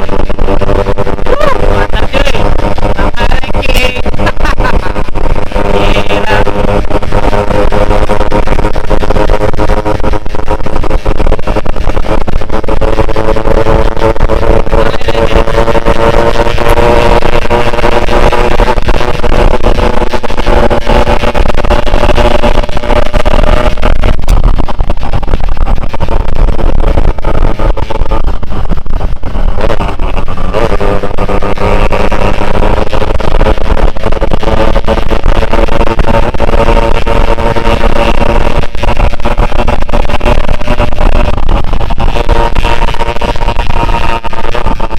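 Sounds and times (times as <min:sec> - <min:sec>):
two-stroke motorcycle engine: 0:00.0 - 0:44.9
wind rumble on microphone: 0:00.0 - 0:44.9.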